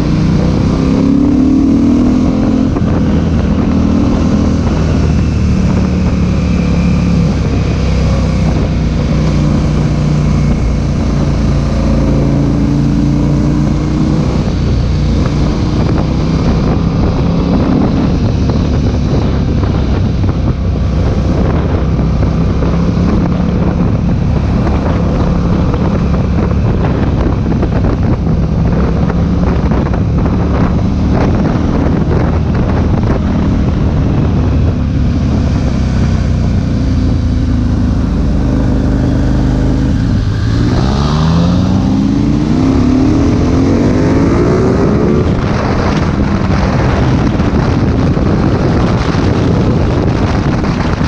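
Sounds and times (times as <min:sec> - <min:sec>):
motorcycle engine: 0:00.0 - 0:51.0
wind rushing over microphone: 0:00.0 - 0:51.0.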